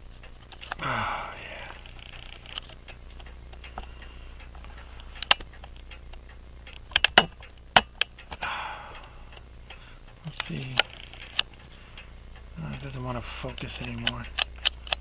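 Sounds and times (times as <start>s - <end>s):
clock ticking: 0.0s - 15.0s
sharp clicks: 0.0s - 15.0s.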